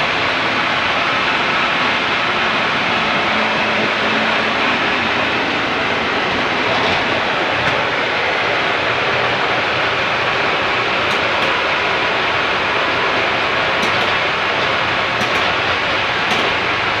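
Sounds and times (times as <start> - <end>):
well-drilling rig running: 0.0 - 17.0.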